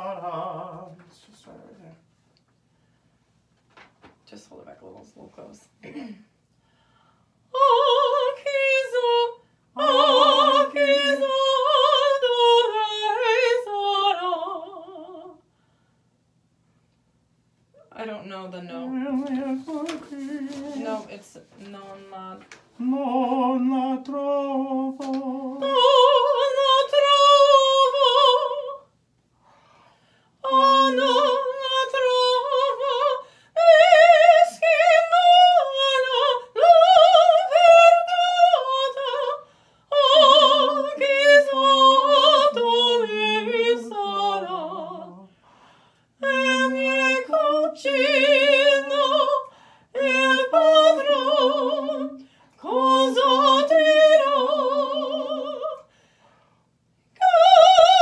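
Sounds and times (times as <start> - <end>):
woman singing classical aria: 0.0 - 2.1, 7.4 - 15.5, 17.8 - 29.0, 30.3 - 45.4, 46.1 - 56.0, 57.1 - 58.0.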